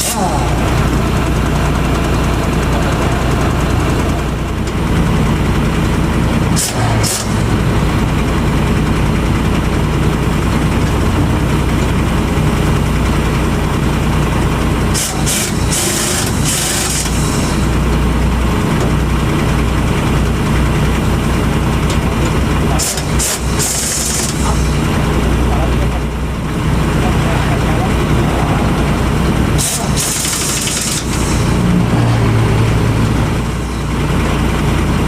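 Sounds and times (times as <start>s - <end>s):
truck diesel engine idling: 0.0s - 35.0s.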